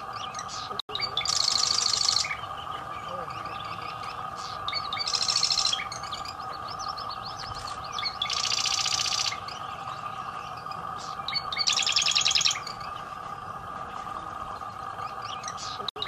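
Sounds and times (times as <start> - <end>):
bird chirps: 0.0 - 16.0
high-pitched hum: 0.0 - 16.0
wren buzzy rattling song: 0.0 - 16.0.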